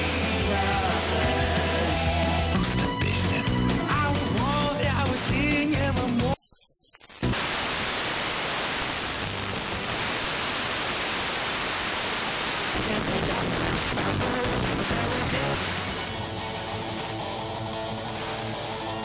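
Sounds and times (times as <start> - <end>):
fm static hiss: 0.0 - 19.0
radio music: 0.0 - 19.0.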